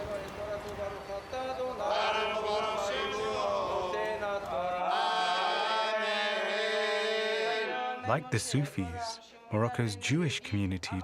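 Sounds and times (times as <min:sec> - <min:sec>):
person singing a chant: 0:00.9 - 0:10.2.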